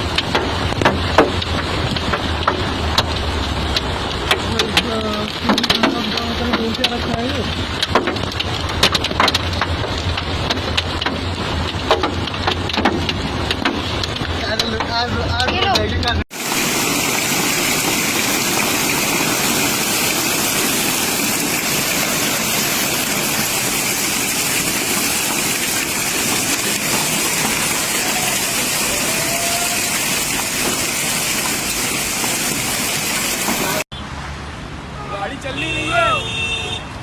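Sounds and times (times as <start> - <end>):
heavy rain pouring: 0.0 - 35.4.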